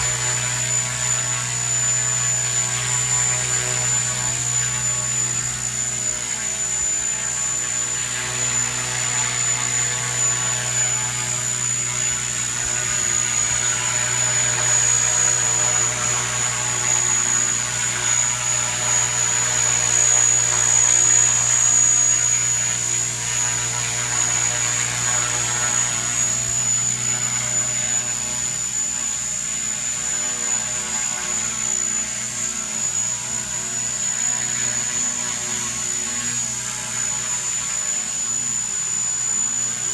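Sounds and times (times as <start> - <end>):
high-pitched whine: 0.0 - 39.9
model helicopter hovering: 0.0 - 39.9.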